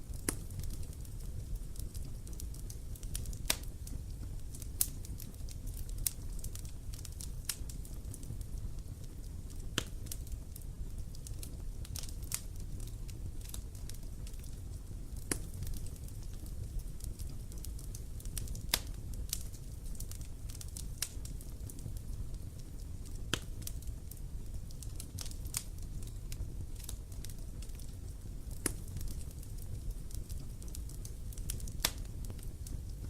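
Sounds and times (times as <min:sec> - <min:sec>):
bonfire crackling and popping: 0:00.0 - 0:33.0.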